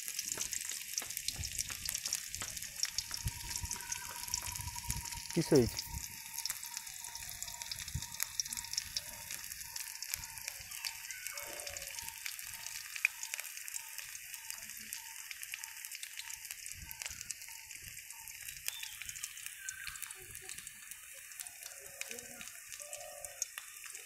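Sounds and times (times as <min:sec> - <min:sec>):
oil sizzling and crackling in a wok: 0:00.0 - 0:24.0.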